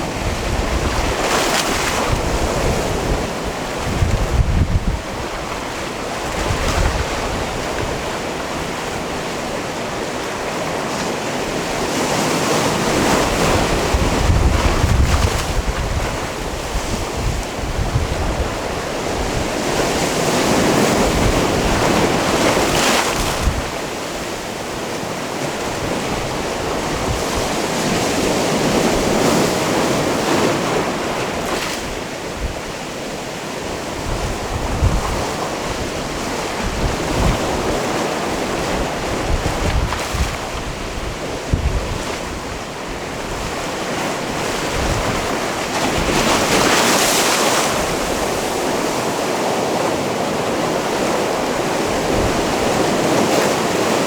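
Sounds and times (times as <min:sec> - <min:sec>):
sea waves on stony shore: 0:00.0 - 0:54.0
wind rumble on microphone: 0:00.0 - 0:54.0.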